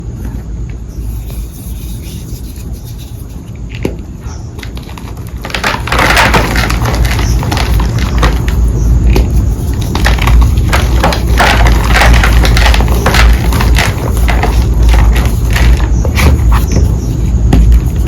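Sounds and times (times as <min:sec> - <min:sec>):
chalk crushing crackle: 0:01.0 - 0:03.5, 0:04.6 - 0:18.0.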